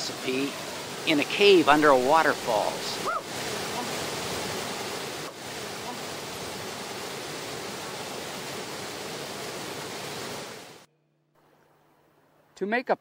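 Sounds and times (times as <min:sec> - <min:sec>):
waterfall pouring into pool: 0:00.0 - 0:10.9.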